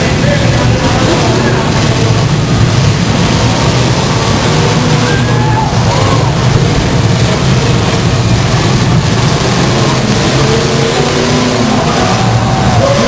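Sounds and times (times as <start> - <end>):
many car engines revving: 0.0 - 13.0.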